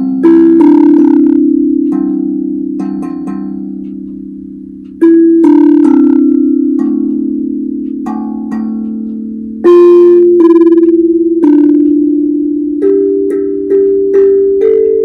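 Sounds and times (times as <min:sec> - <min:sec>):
steel tongue drum notes: 0:00.0 - 0:15.0.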